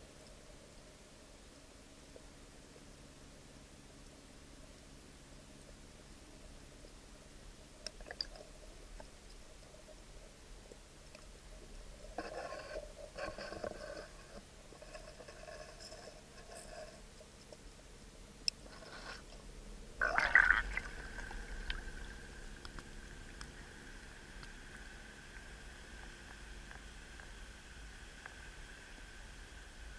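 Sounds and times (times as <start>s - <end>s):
faint steady tone: 0.0s - 29.9s
muffled underwater crackling: 0.1s - 18.0s, 18.6s - 29.9s.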